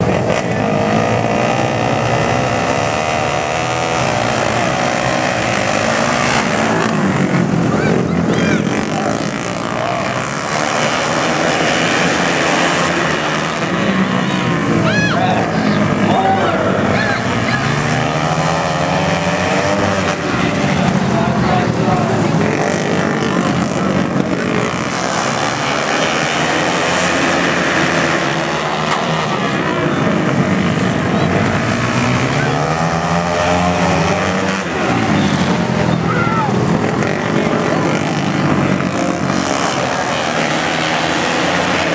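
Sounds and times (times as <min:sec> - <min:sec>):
racing motorcycle engines: 0:00.0 - 0:41.9.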